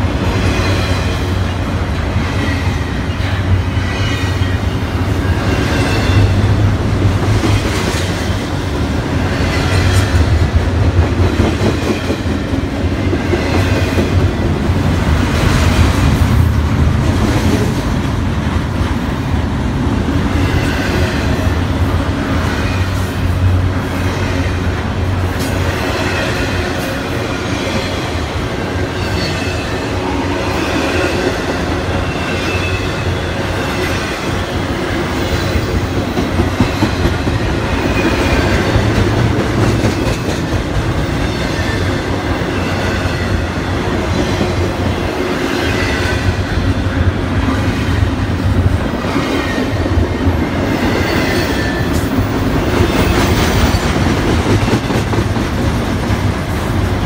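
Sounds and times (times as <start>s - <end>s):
rumble of train wheels on rails: 0.0s - 57.0s.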